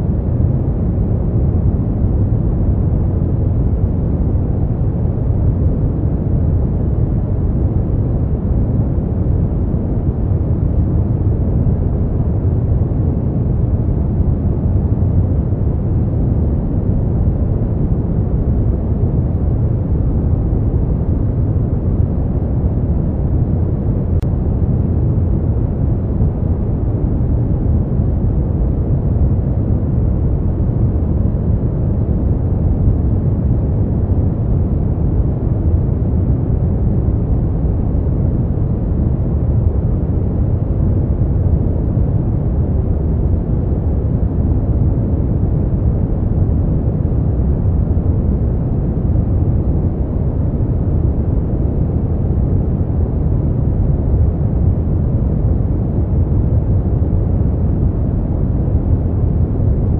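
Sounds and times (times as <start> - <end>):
deep rushing white noise: 0.0 - 59.9.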